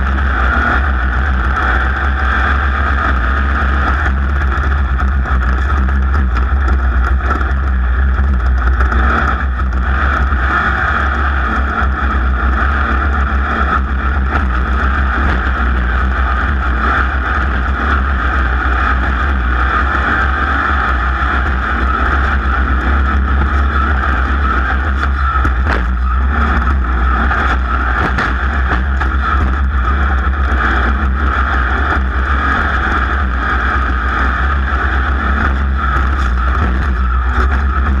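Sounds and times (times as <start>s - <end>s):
heavy low rumble: 0.0s - 38.0s
racing engine at high speed: 0.0s - 38.0s.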